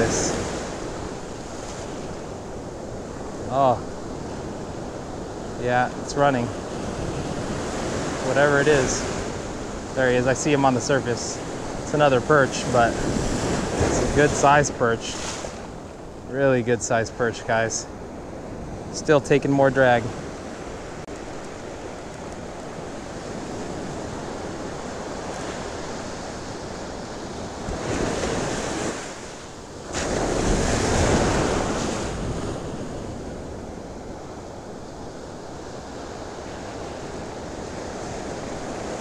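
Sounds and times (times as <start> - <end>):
wind buffeting microphone: 0.0 - 16.5, 17.5 - 39.0
ocean surf breaking: 0.0 - 39.0.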